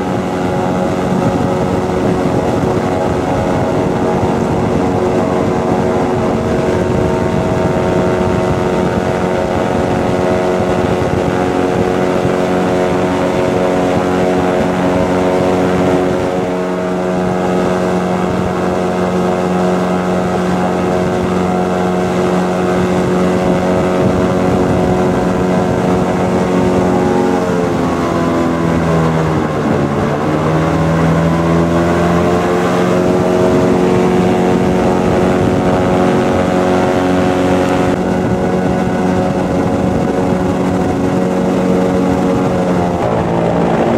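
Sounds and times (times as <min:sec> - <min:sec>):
airboat engine and propeller: 0:00.0 - 0:43.9.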